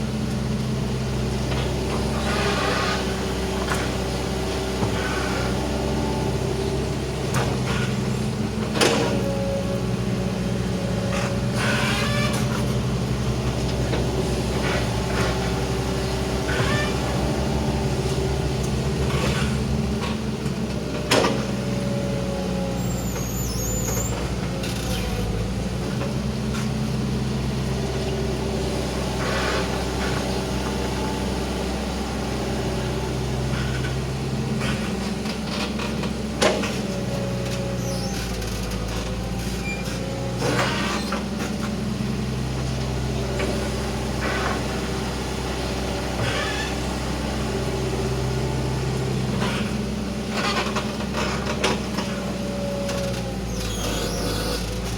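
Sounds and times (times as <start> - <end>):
excavator diesel engine: 0.0 - 54.9
hydraulic whine: 1.5 - 27.0, 29.2 - 41.8, 43.3 - 54.9.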